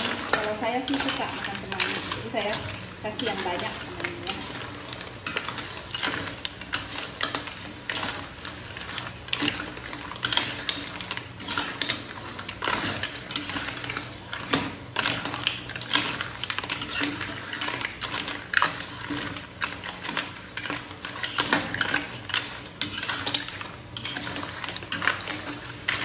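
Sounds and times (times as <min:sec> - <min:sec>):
clam shells clattering in wok: 0:00.0 - 0:26.0.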